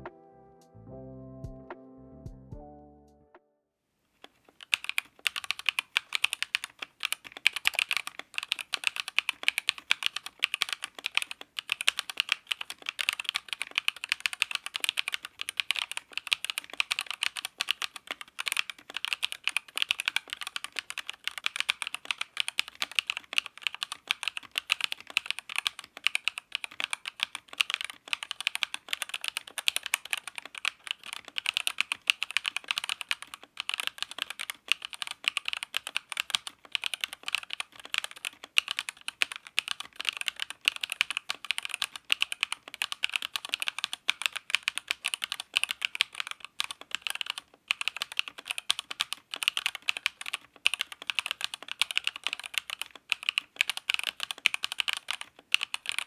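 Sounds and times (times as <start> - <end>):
mechanical keyboard typing: 4.6 - 56.0.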